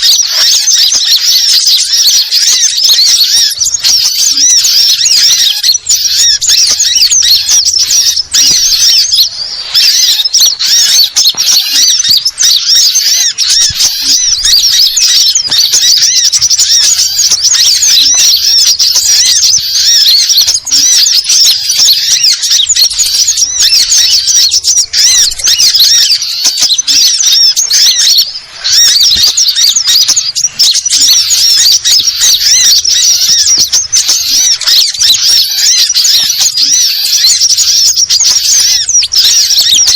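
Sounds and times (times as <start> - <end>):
small birds twittering and squeaking: 0.0 - 39.9.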